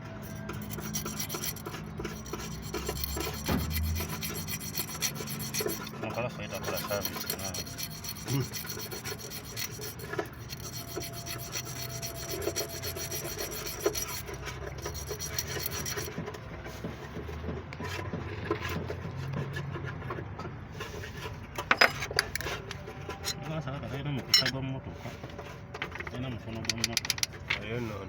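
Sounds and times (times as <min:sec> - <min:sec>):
rasping and rubbing by hand: 0:00.0 - 0:20.2, 0:20.8 - 0:28.0.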